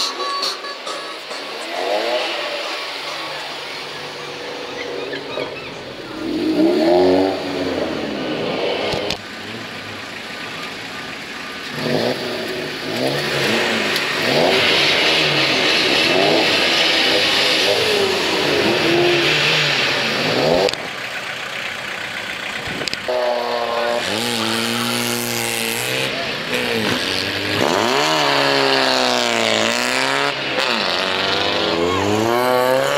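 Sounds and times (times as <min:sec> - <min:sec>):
car engines revving hard: 0:00.0 - 0:32.9.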